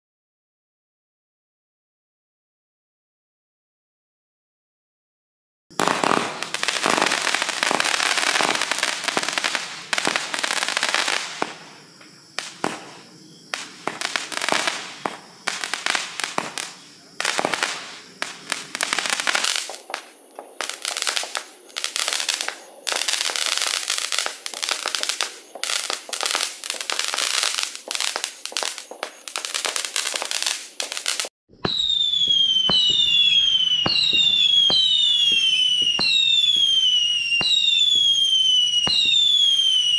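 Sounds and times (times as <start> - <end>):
firework launch shots and crackling: 5.7 - 39.9
shrill firework whistles: 5.7 - 39.9.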